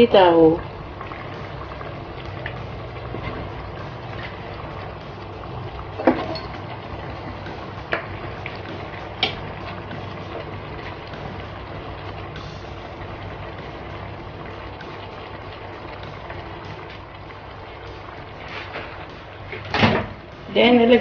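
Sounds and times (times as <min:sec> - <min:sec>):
stew bubbling in a pot: 0:00.0 - 0:21.0.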